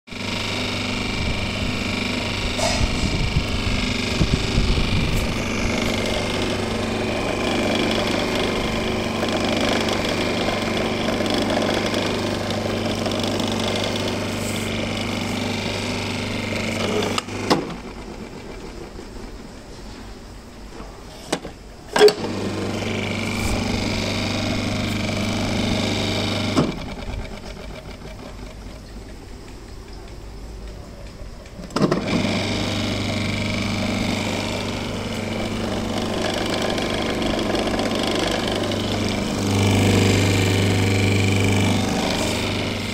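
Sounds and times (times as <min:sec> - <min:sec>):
food processor motor humming: 0:00.1 - 0:19.1, 0:22.0 - 0:28.9, 0:31.7 - 0:42.9.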